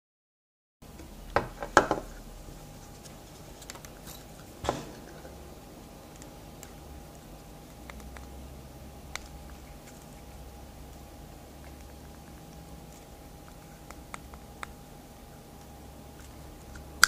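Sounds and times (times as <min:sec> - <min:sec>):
faint steady hum: 0:00.8 - 0:17.0.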